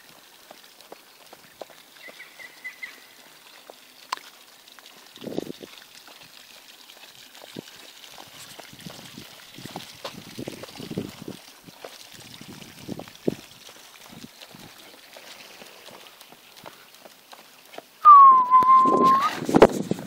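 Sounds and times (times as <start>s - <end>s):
horse hooves on soft dirt: 0.0s - 18.0s.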